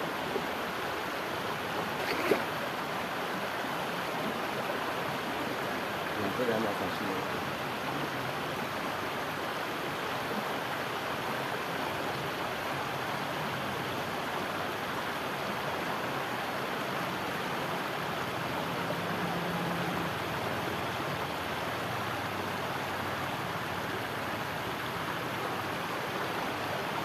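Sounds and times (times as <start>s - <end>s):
stream flowing over stones: 0.0s - 27.0s.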